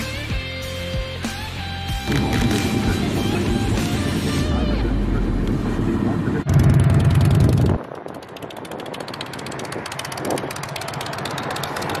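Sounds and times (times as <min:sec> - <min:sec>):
vehicle rumbling: 0:01.7 - 0:12.0.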